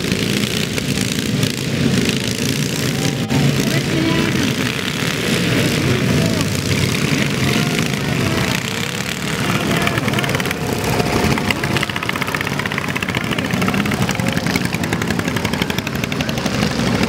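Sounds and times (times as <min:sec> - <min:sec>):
lawn mower engines buzzing: 0:00.0 - 0:17.0.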